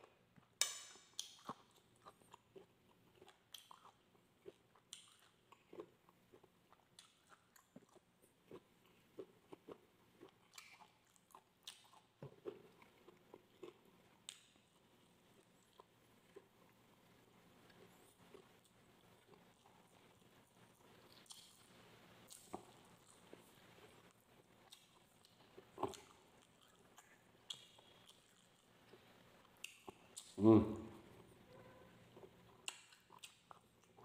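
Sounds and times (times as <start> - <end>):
person chewing with mouth smacks: 0.3 - 16.8, 17.6 - 30.4, 31.5 - 34.0.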